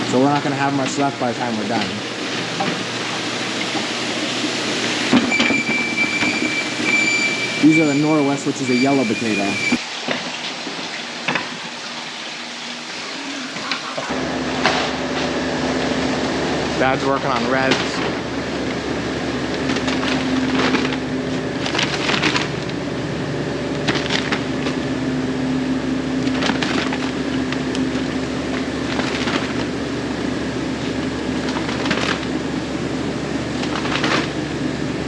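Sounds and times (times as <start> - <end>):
washer machine humming: 0.0 - 35.0.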